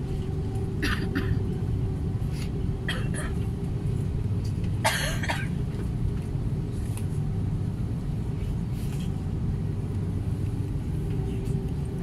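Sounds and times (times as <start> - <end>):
jet engines low rumble: 0.0 - 12.0.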